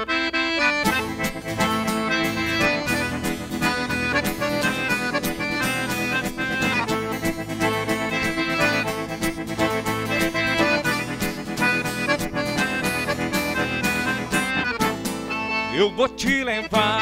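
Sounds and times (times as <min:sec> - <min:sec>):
accordions playing melody: 0:00.0 - 0:17.0
rhythmic accompaniment: 0:00.0 - 0:17.0.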